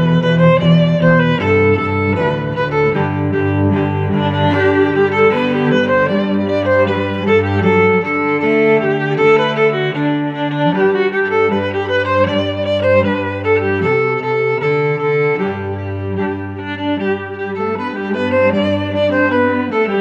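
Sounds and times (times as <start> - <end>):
low sustained strings: 0.0 - 20.0
violin melody: 0.0 - 20.0.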